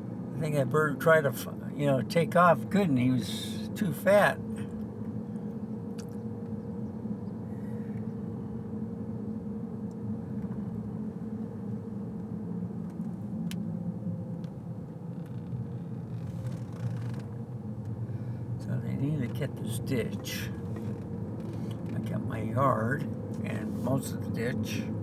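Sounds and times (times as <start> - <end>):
moving vehicle rumble: 0.0 - 25.0.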